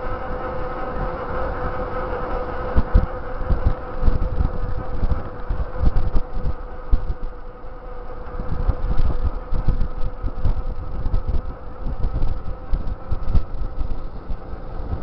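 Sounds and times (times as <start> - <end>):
bicycle tyres humming on asphalt: 0.0 - 15.0
wind buffeting microphone: 0.0 - 15.0.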